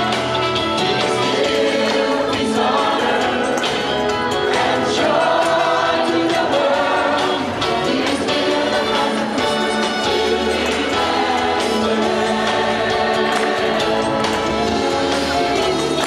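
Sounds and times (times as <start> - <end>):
people clapping hands: 0.0 - 8.4, 10.0 - 16.0
gospel choir singing: 0.0 - 16.0.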